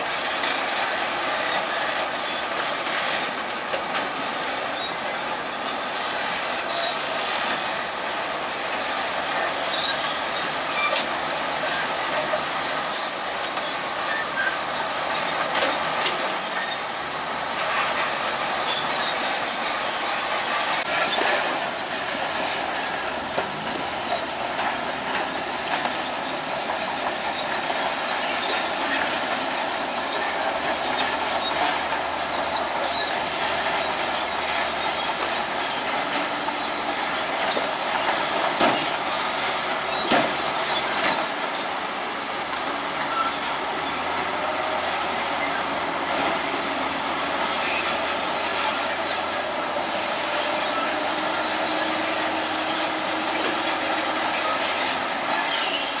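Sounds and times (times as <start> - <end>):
bulldozer diesel engine running: 0.0 - 56.0
crawler tracks clattering and squealing: 0.0 - 56.0.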